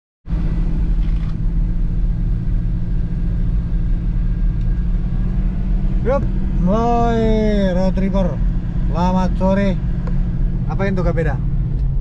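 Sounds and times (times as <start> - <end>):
car engine and road rumble: 0.2 - 12.0.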